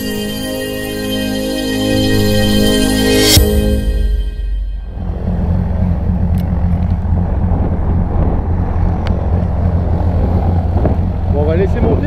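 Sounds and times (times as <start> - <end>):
propeller aircraft engine idling: 0.0 - 12.0.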